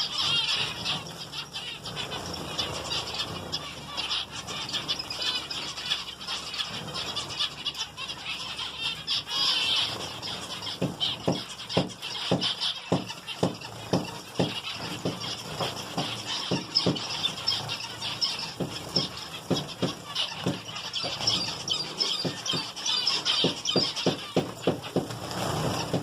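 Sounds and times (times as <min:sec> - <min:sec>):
birds splashing in water: 0:00.0 - 0:26.0
finches chirping: 0:00.0 - 0:26.0.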